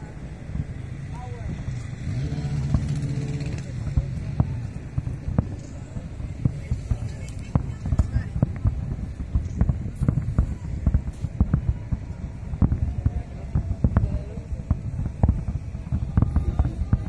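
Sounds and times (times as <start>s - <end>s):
sharp firework cracks: 0.0s - 17.0s
firework shells booming: 0.1s - 17.0s.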